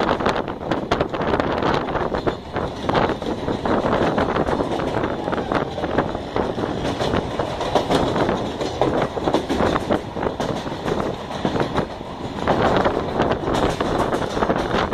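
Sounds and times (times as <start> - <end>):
train clattering and knocking: 0.0 - 14.9
train wheels rumbling on rails: 0.0 - 14.9.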